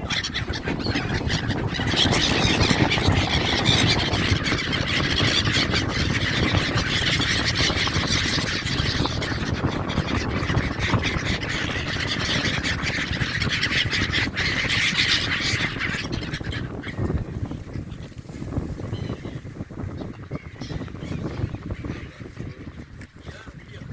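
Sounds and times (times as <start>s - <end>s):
flock of seabirds calling: 0.0s - 23.9s.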